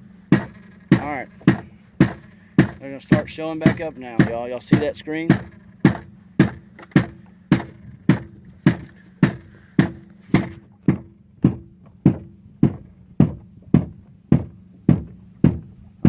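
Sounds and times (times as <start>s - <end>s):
hammering on boat hull: 0.3s - 15.8s.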